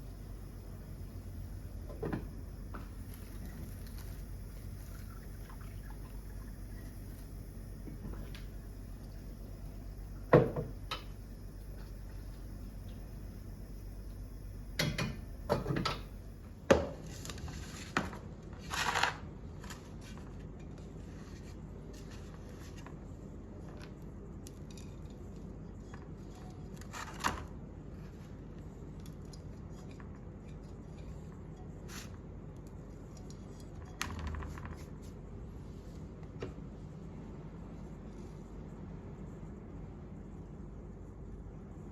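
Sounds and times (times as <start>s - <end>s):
low steady background noise: 0.0s - 41.9s.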